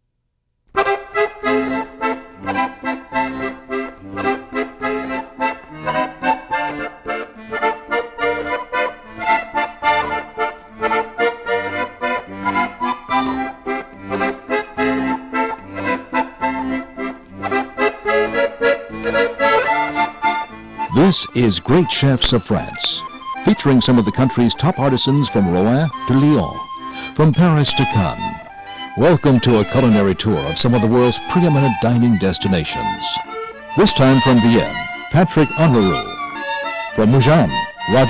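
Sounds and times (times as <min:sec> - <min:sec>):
instrumental theme music: 0:00.7 - 0:38.0.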